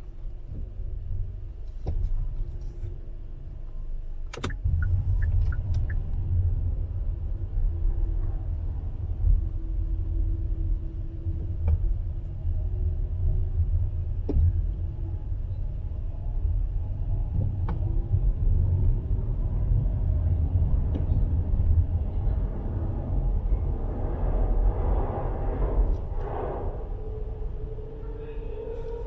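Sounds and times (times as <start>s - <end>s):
motor vehicle rumble: 0.0s - 29.0s
faint hum: 2.5s - 29.0s.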